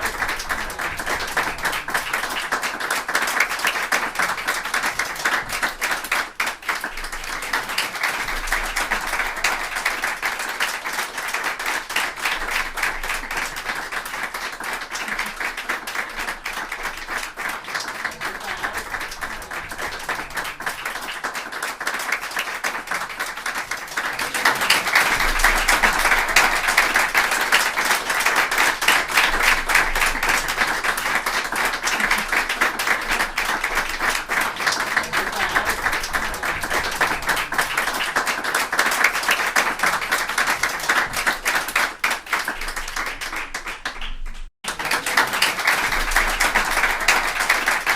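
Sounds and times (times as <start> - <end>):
crowd applauding: 0.0 - 47.9.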